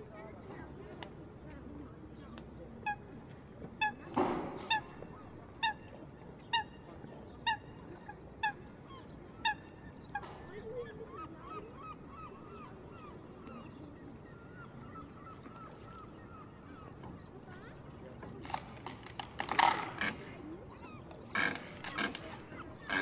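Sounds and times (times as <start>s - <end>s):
birds calling: 3.8s - 23.0s.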